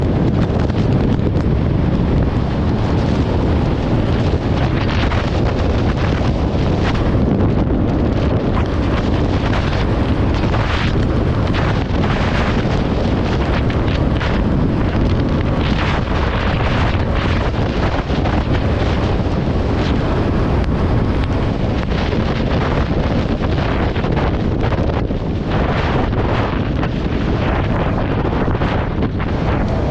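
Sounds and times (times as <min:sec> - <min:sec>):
strong wind buffeting microphone: 0:00.0 - 0:29.9.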